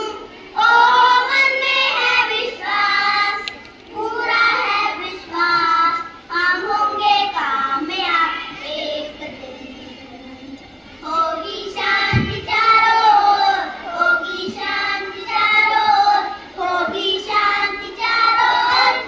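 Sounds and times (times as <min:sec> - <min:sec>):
children singing together: 0:00.0 - 0:19.0.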